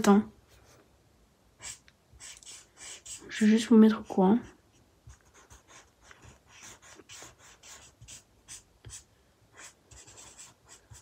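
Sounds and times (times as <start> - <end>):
marker scratching on paper: 1.6 - 11.0.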